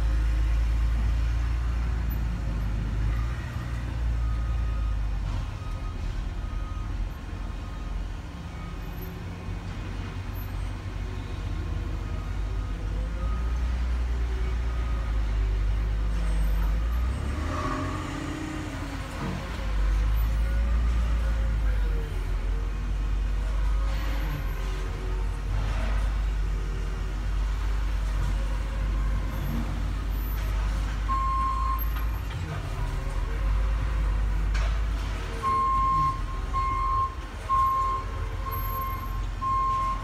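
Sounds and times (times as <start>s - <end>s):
heavy diesel machinery rumbling: 0.0s - 40.0s.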